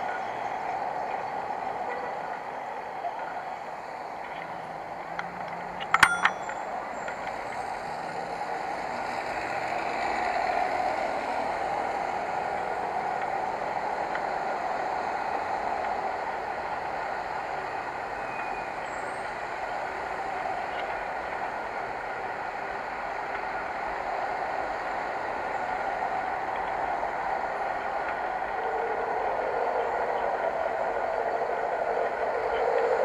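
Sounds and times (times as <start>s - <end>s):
bicycle road noise: 0.0s - 33.0s.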